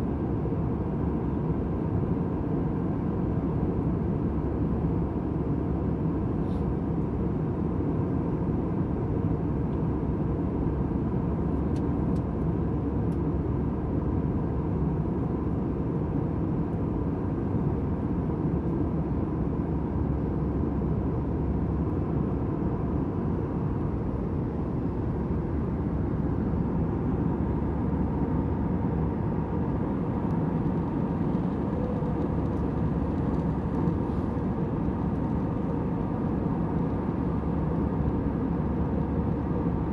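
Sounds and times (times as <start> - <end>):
airliner cabin rumble and hiss: 0.0 - 39.9.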